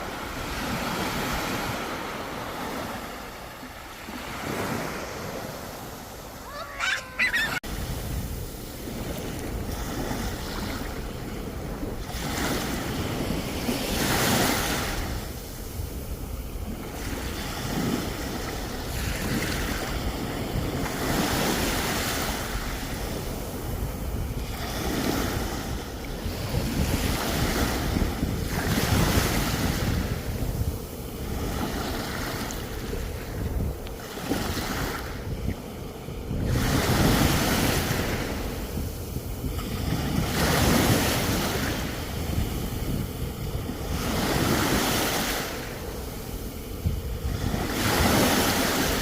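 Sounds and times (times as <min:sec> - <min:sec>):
sea waves breaking on shore: 0:00.0 - 0:49.0
wind rumbling on microphone: 0:00.0 - 0:49.0.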